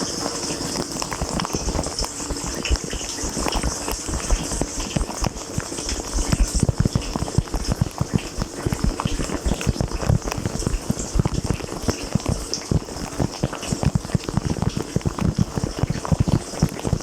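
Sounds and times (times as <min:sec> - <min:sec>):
water spray drumming on housing: 0:00.0 - 0:17.0.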